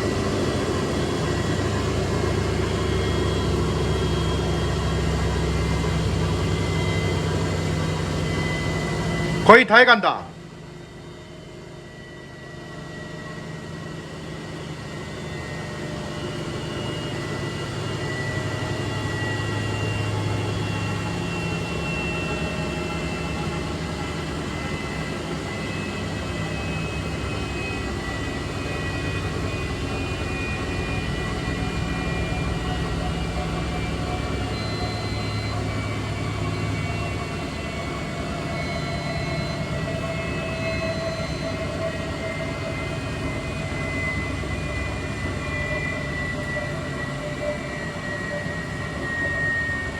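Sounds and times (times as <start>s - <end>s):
washing machine spinning: 0.0s - 9.5s, 13.5s - 49.9s.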